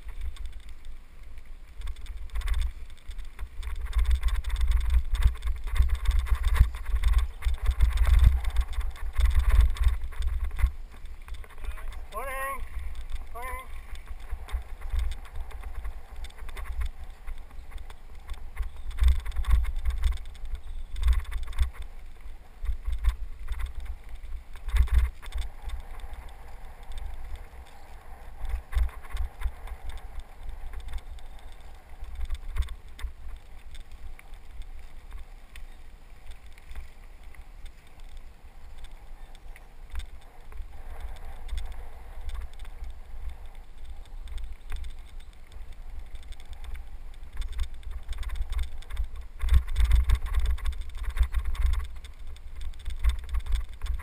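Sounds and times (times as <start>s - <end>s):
wind buffeting microphone: 1.7s - 54.0s.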